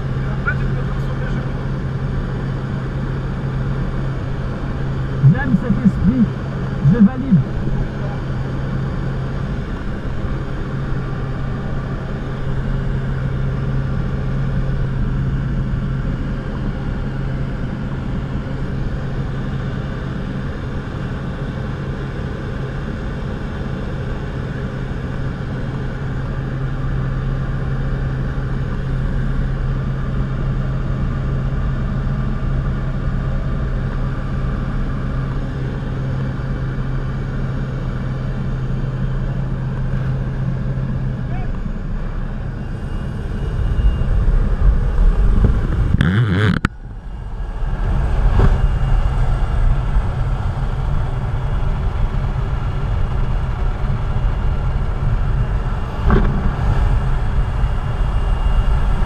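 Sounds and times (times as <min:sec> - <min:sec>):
aircraft engine and propeller drone: 0:00.0 - 0:59.0.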